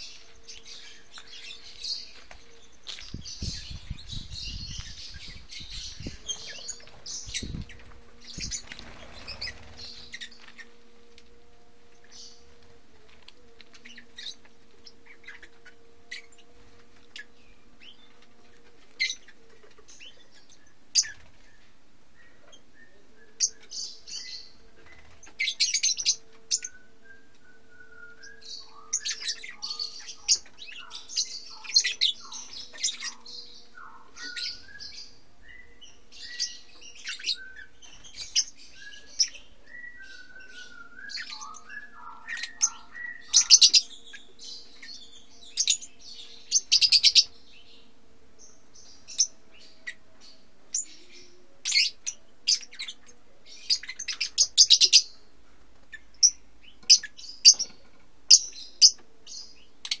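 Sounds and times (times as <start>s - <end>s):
lovebirds chirping: 0.0s - 60.0s.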